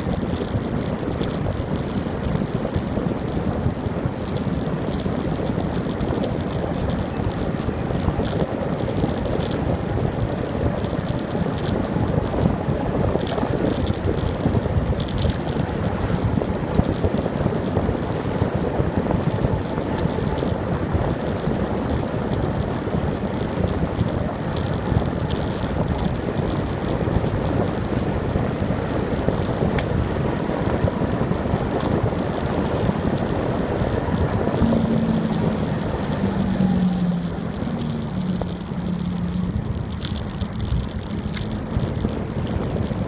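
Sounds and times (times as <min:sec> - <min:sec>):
bicycle tyre rumble on road: 0:00.0 - 0:43.0
engine hum: 0:00.0 - 0:43.0
wind on microphone: 0:00.0 - 0:43.0.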